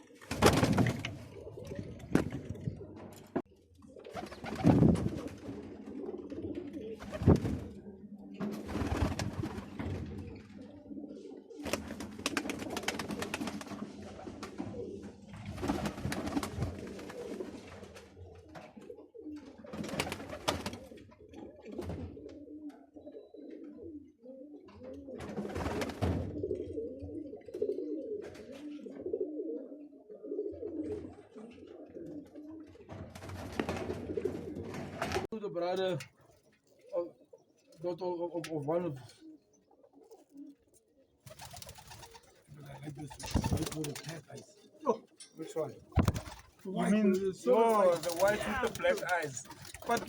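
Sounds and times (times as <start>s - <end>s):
pigeons cooing: 0.0s - 35.3s, 35.9s - 50.0s.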